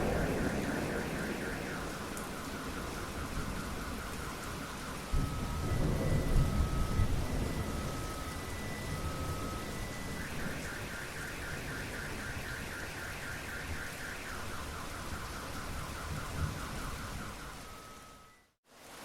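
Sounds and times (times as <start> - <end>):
car alarm beeping and warbling: 0.0 - 18.6
steady rain: 0.0 - 19.0.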